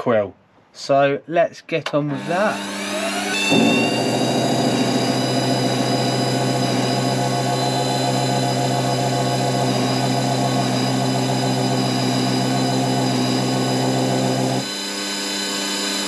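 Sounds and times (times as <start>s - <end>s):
lathe motor humming and whining: 2.2s - 16.0s.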